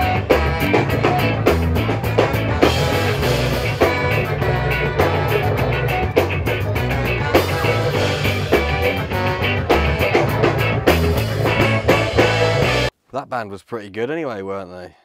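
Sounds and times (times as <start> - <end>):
bass guitar: 0.0 - 12.9
drum kit beat: 0.0 - 12.9
electric guitar: 0.0 - 12.9
horn section: 0.0 - 12.9
keyboard: 0.0 - 12.9.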